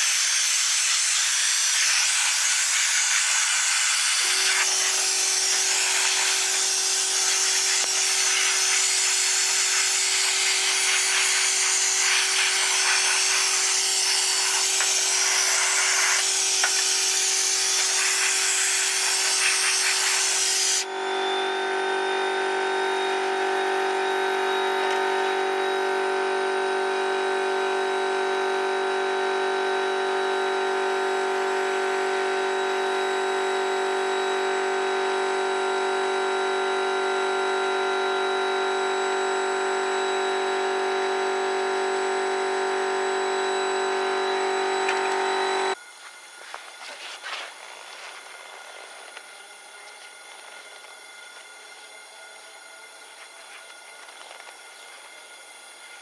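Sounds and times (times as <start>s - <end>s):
electric power tool motor running: 0.0s - 56.0s.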